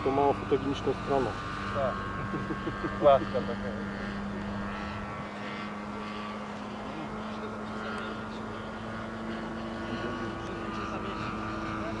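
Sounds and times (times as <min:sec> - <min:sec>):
model airplane engine droning: 0:00.0 - 0:12.0.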